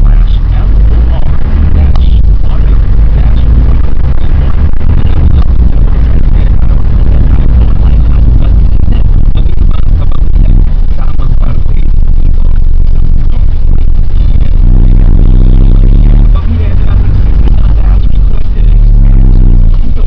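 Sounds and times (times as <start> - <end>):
pickup truck engine and road noise: 0.0 - 20.0.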